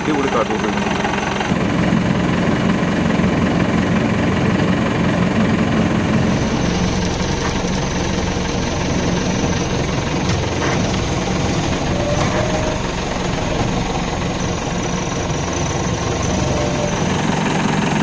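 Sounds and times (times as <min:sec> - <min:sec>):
jeep engine humming: 0:00.0 - 0:18.0.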